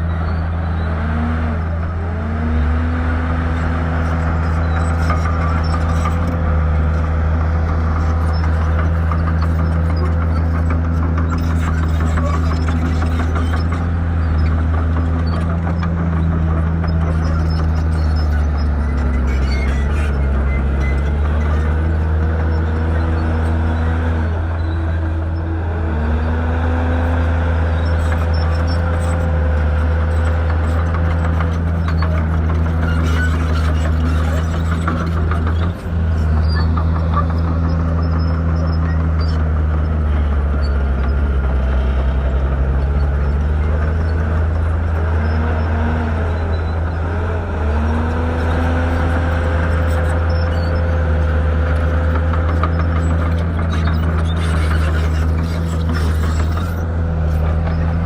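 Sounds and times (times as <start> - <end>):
bulldozer diesel engine running hard: 0.0 - 58.0.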